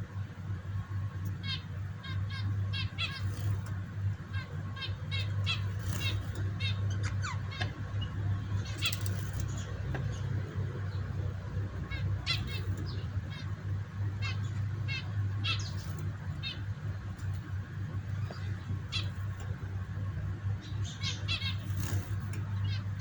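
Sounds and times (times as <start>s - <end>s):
steady low hum: 0.0s - 23.0s
pet birds chirping: 0.7s - 23.0s.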